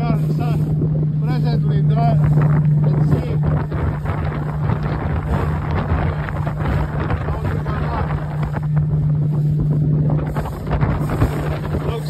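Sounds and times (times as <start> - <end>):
outboard engine droning: 0.0 - 12.0
water rushing along hull: 0.0 - 12.0
wind buffeting microphone: 0.0 - 12.0.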